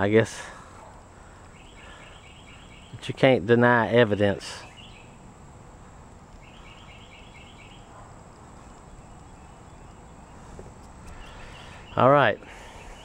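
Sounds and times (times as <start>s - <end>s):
faint background noise: 0.0s - 13.0s
bird chirping: 1.3s - 3.5s, 4.3s - 13.0s.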